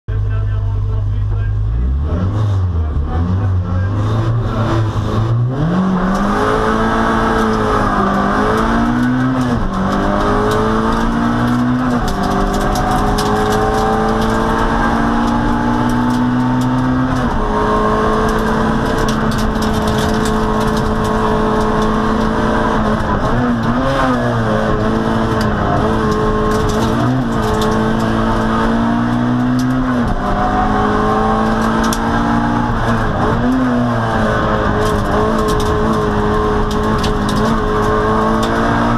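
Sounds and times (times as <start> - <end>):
car engine at full throttle: 0.1 - 38.9.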